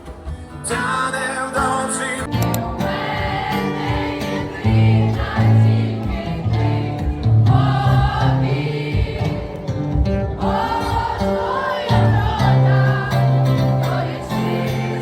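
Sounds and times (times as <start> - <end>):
song with sung vocals: 0.0 - 15.0
choir-like voices: 0.7 - 15.0.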